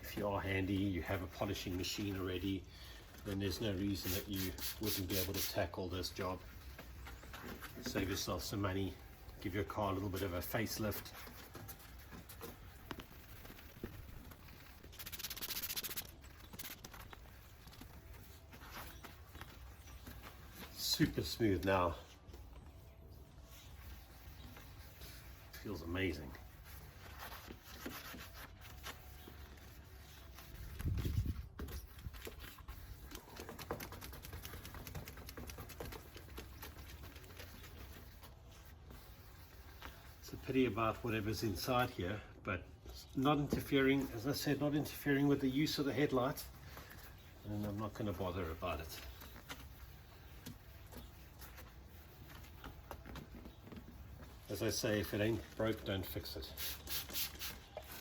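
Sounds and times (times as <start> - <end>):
sandpaper rubbing on plastic: 0.1 - 22.5, 23.2 - 42.0, 43.2 - 58.0.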